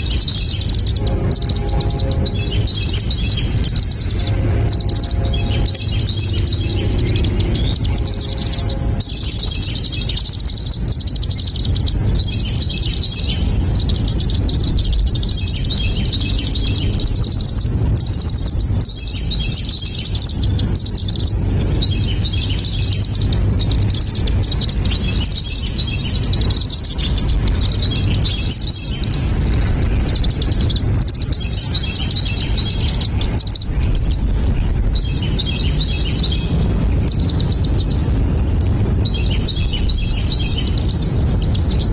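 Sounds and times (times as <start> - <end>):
small birds chirping: 0.0 - 41.9
steady low rumble: 0.0 - 41.9.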